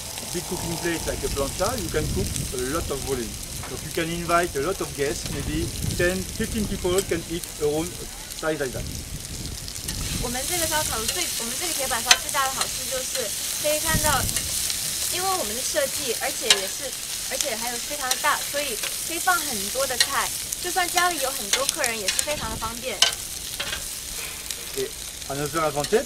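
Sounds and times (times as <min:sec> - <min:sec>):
vegetables sizzling on hot plate: 0:00.0 - 0:26.0.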